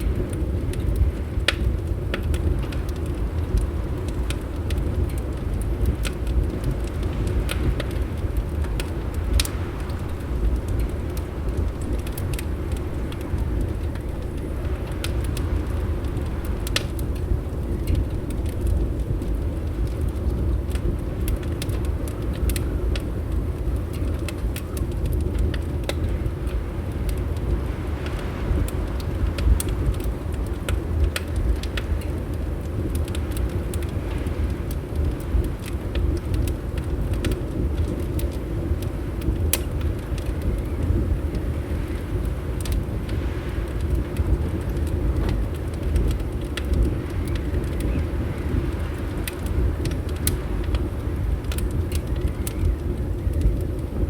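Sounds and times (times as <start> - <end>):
wind against windows: 0.0 - 54.0
wood fire crackling and popping: 0.0 - 54.0.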